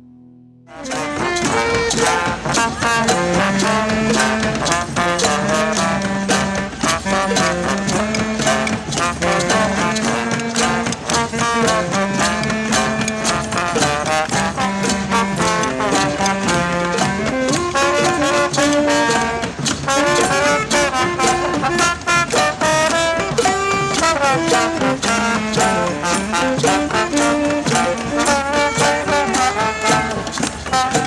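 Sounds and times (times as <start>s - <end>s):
brass horns melody: 0.6s - 31.0s
steady drum beat: 0.8s - 31.0s.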